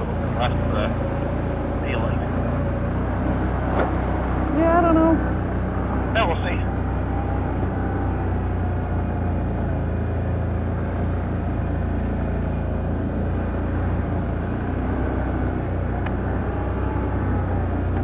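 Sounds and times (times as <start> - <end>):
atv engine droning: 0.0 - 18.0.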